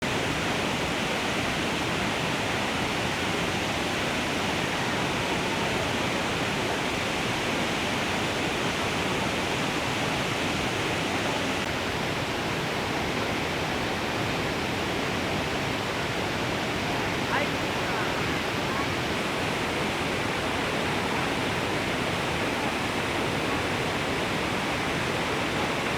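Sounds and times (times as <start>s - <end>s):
rush of falling water: 0.0s - 25.9s.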